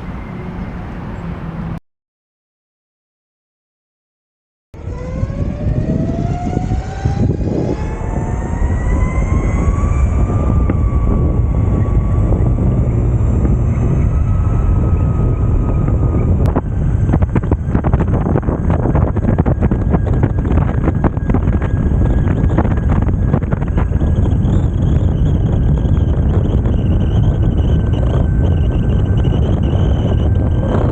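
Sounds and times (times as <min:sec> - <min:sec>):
wheels rolling on road: 0:00.0 - 0:01.8, 0:04.8 - 0:30.9
wind on microphone: 0:00.0 - 0:01.8, 0:04.8 - 0:30.9.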